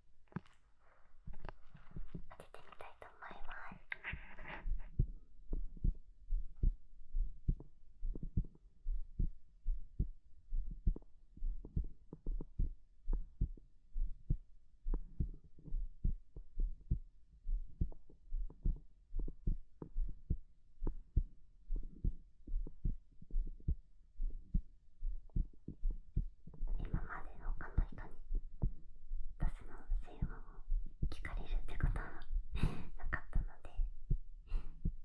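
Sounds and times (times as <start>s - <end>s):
heartbeat thumps: 1.2s - 2.4s, 3.4s - 35.0s.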